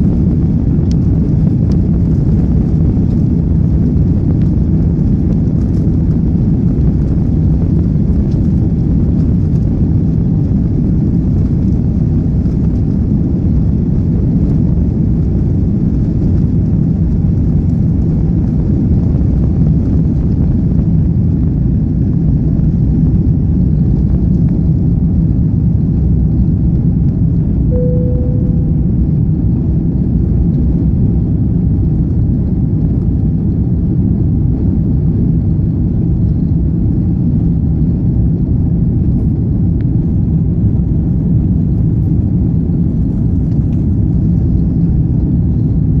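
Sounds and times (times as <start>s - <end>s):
jet engine and airflow rumble: 0.0s - 46.0s.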